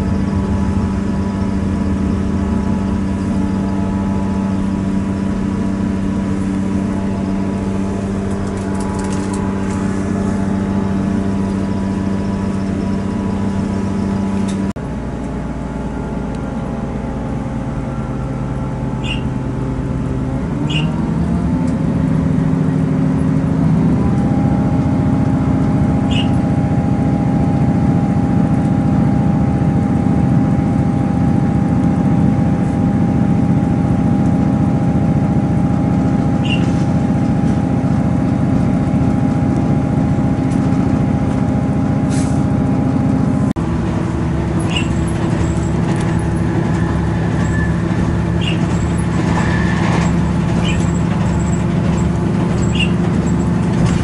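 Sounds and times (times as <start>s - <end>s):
train engine droning: 0.0s - 54.0s
train wheel noise: 0.0s - 54.0s.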